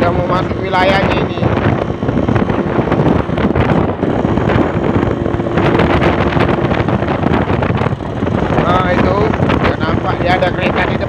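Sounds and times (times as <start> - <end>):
two-stroke motorcycle riding: 0.0 - 11.0
wind buffeting on microphone: 0.0 - 11.0.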